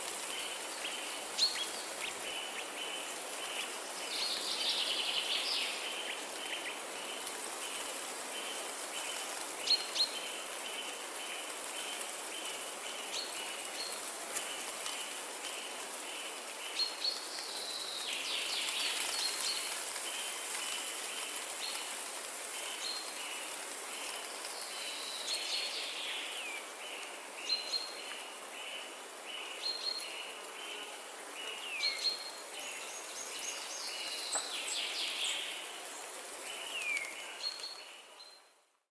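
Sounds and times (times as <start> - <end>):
light rain hissing: 0.0 - 38.7.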